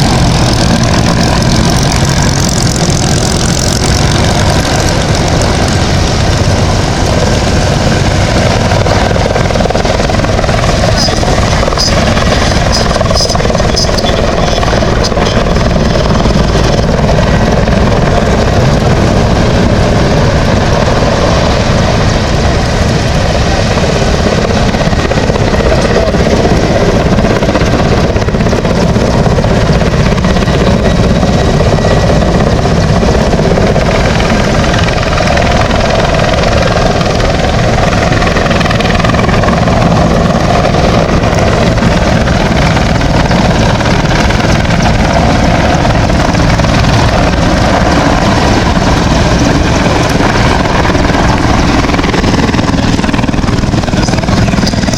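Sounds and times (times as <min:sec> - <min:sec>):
helicopter rotor beat: 0:00.0 - 0:54.9
high whine: 0:00.0 - 0:54.9
turbine engine noise: 0:00.0 - 0:54.9.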